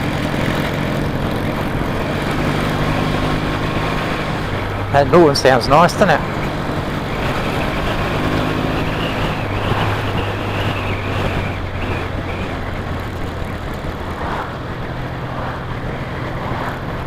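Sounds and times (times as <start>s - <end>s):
motorcycle engine humming: 0.0s - 17.0s
wind rushing on microphone: 0.0s - 17.0s.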